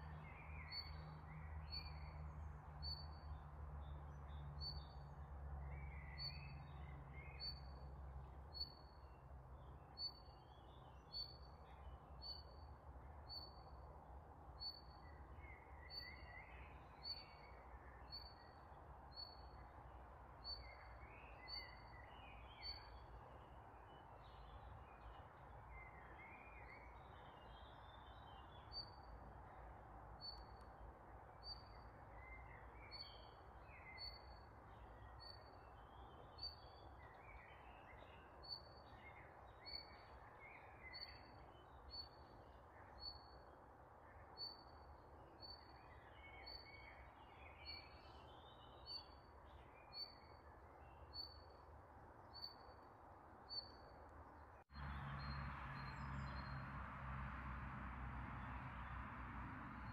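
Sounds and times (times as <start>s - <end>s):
faint outdoor background: 0.0s - 59.9s.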